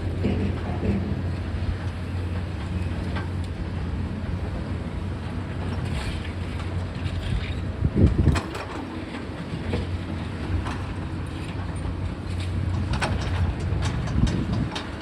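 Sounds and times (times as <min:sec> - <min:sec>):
low diesel drone: 0:00.0 - 0:15.0
faint knocks and clatter: 0:00.2 - 0:03.5, 0:05.6 - 0:15.0.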